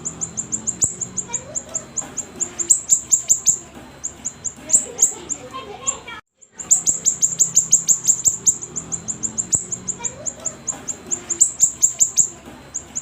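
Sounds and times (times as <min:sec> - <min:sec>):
bird chirping rapidly: 0:00.0 - 0:13.0.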